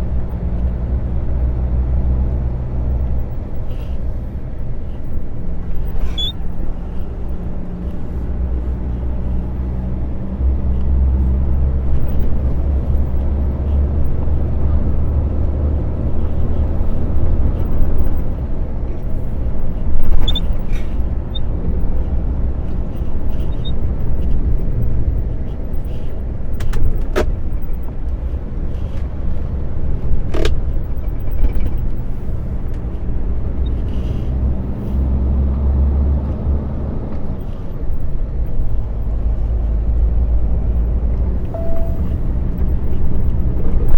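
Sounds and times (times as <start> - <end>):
diesel truck engine droning: 0.0 - 43.9.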